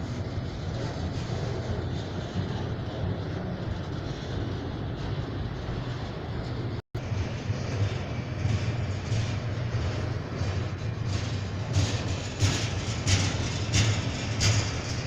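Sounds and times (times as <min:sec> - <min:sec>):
freight train low rumble: 0:00.0 - 0:15.0
wheels clacking over rail joints: 0:00.0 - 0:15.0.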